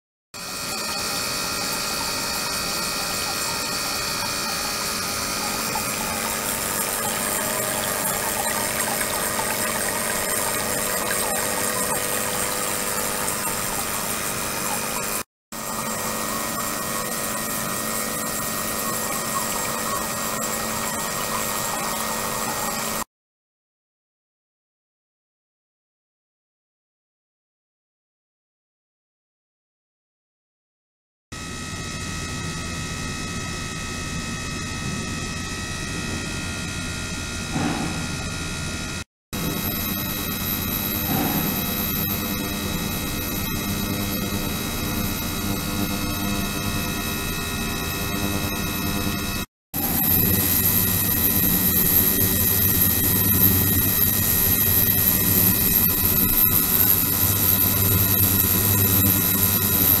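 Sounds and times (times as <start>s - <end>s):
ultrasonic transducer humming: 0.4s - 23.0s, 34.5s - 60.0s.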